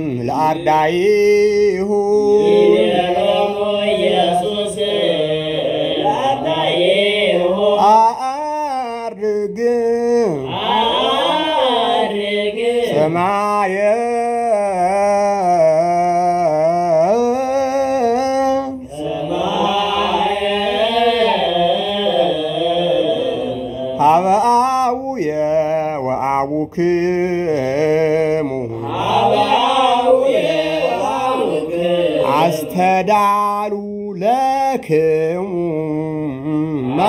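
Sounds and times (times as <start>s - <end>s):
solo voice chanting a hymn: 0.0s - 6.8s, 7.4s - 10.9s, 12.1s - 29.6s, 30.2s - 37.0s.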